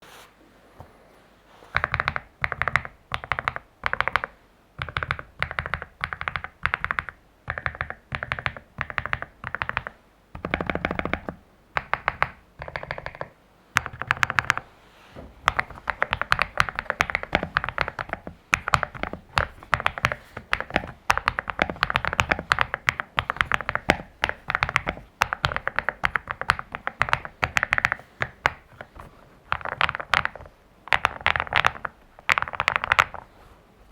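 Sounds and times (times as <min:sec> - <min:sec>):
mechanical keyboard typing: 0:01.8 - 0:14.6, 0:15.4 - 0:33.2.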